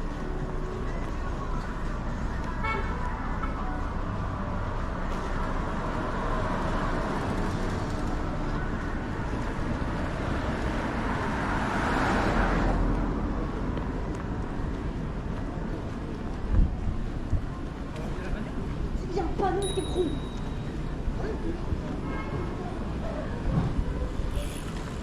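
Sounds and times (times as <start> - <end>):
street traffic noise: 0.0 - 25.0.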